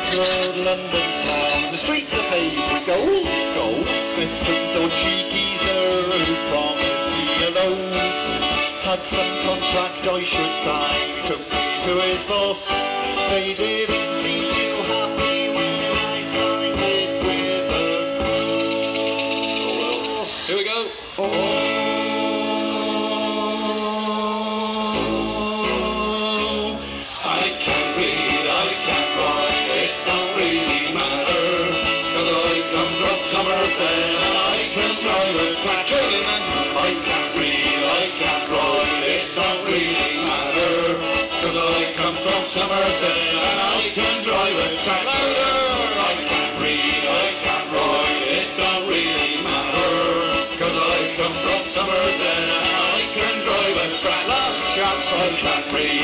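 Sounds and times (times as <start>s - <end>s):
strummed guitar: 0.0s - 20.5s, 21.1s - 56.0s
band playing country music: 0.0s - 56.0s.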